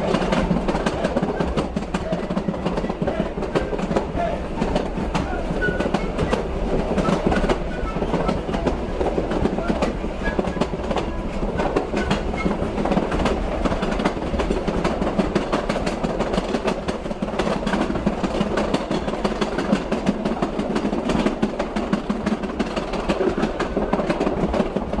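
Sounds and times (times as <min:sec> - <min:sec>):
train rumbling on track: 0:00.0 - 0:25.0
wheels clacking over rails: 0:00.0 - 0:25.0.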